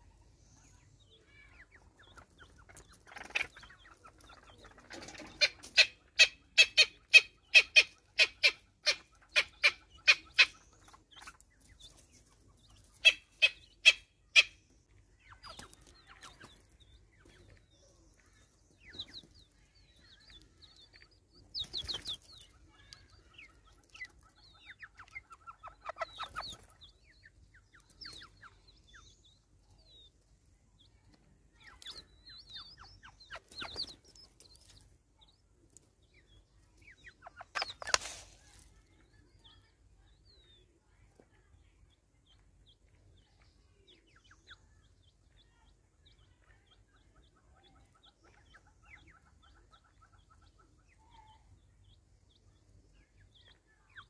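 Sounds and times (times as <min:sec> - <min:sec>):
bird clucking calls: 0:00.0 - 0:30.1, 0:30.9 - 0:35.3, 0:36.0 - 0:39.6, 0:46.0 - 0:52.0.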